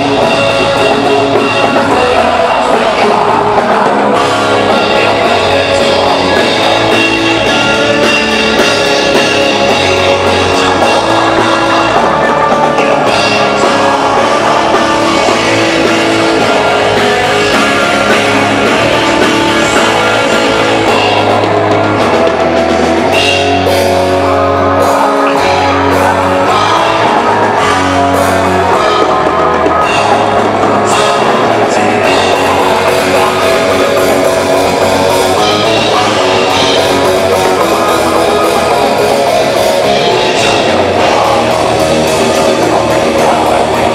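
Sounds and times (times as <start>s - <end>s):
bass guitar: 0.0s - 43.9s
distorted electric guitars: 0.0s - 43.9s
drum kit: 0.0s - 43.9s.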